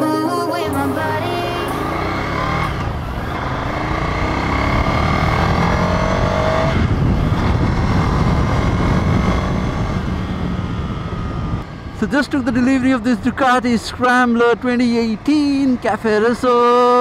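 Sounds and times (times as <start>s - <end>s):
motorcycle engine accelerating: 1.5s - 17.0s.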